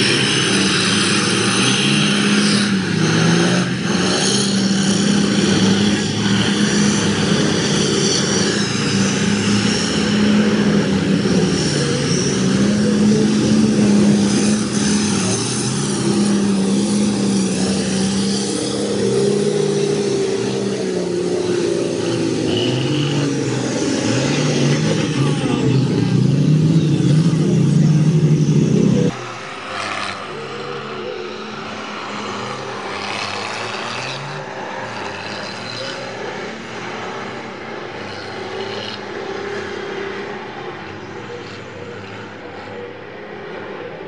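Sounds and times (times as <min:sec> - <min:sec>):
diesel truck engines revving: 0:00.0 - 0:44.0.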